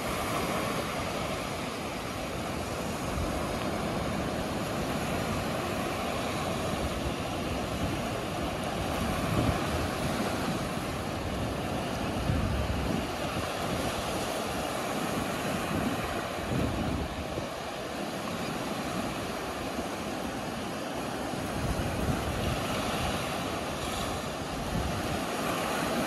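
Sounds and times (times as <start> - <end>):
small waves breaking on sand: 0.0 - 26.0
wind rumbling on microphone: 0.0 - 26.0.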